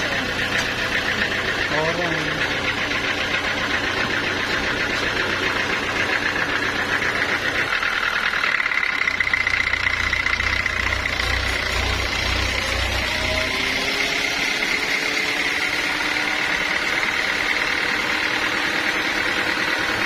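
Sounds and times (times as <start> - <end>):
deep pulsing throb: 0.0 - 20.0
engine running steadily: 0.0 - 20.0
high machine whine: 0.0 - 20.0.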